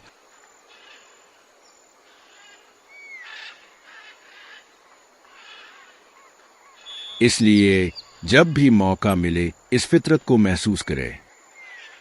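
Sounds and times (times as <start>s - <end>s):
light steady hiss: 0.0s - 12.0s
soft bird calls: 0.0s - 12.0s.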